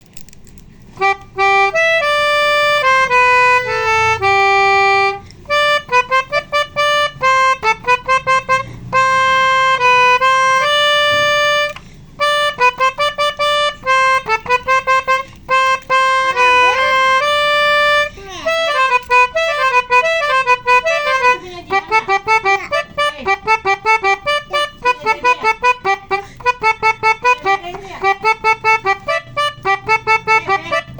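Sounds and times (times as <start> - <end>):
multi-tone bus air horn melody: 1.0 - 30.9.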